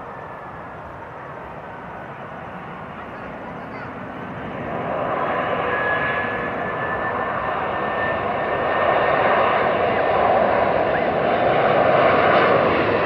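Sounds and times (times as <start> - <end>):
high engine whine: 0.0 - 13.0
jet airliner engine noise: 0.0 - 13.0.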